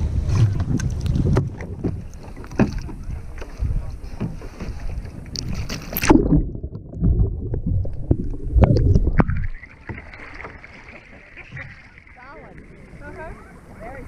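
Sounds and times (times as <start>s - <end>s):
muffled underwater rumble with knocks: 0.0s - 13.9s
water splashing and sloshing: 0.0s - 14.0s.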